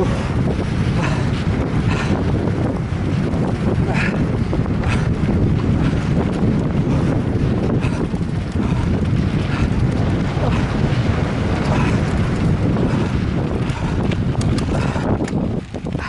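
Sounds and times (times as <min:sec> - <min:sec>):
bike clicks and rattles: 0:00.0 - 0:16.0
wind rumbling on microphone: 0:00.0 - 0:16.0.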